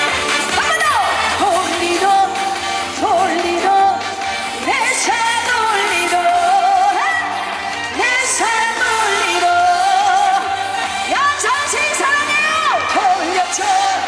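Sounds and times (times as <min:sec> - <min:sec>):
amplified band backing: 0:00.0 - 0:14.0.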